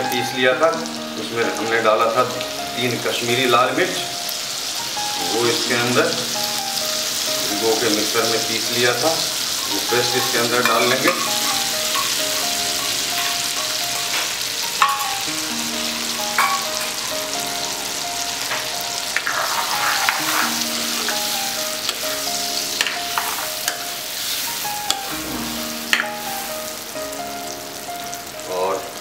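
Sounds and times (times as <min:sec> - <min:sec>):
oil sizzling in a pan: 0:00.0 - 0:29.0
soft background music: 0:00.0 - 0:29.0.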